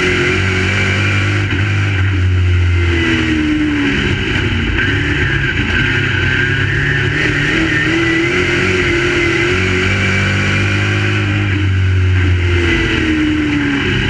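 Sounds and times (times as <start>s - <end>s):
race car engines running: 0.0s - 14.0s.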